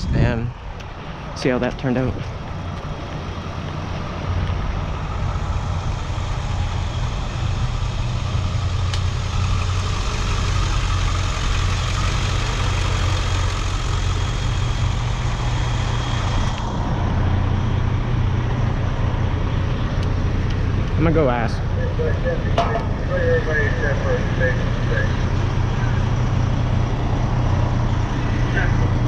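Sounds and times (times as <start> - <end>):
large vehicle engine idling: 0.0 - 29.0.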